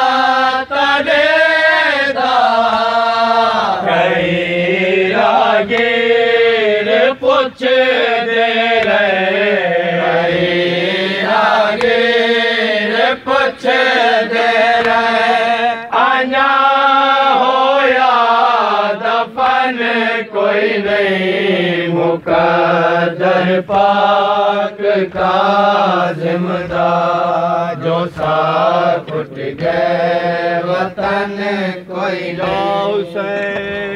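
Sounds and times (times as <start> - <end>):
man chanting a lament: 0.3 - 33.9.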